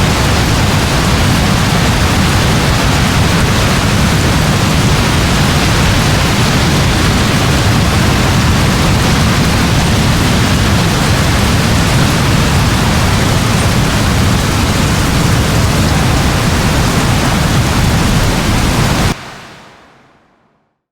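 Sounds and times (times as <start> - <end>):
heavy rain in forest: 0.0 - 20.0.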